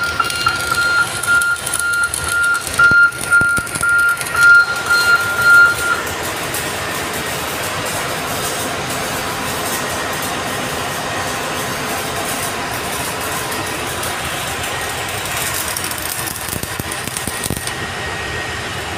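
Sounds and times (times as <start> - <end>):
machinery drone: 0.0 - 18.9
welding arc crackling: 0.0 - 18.9.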